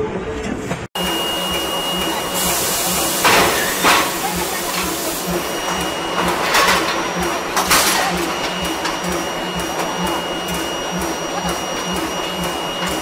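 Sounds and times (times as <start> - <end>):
pulsing mechanical hum: 1.0 - 13.0.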